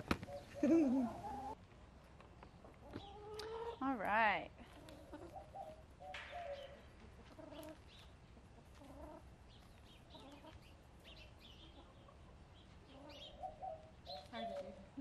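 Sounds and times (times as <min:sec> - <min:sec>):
hens clucking: 0:00.0 - 0:01.6, 0:02.4 - 0:03.9, 0:04.7 - 0:10.8, 0:11.4 - 0:15.0.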